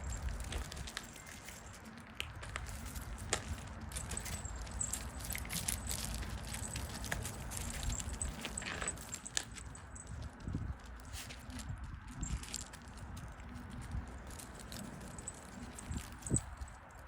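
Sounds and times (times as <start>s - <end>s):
steady low rumble: 0.0s - 16.7s
dry sticks and leaves crackling: 0.0s - 17.0s.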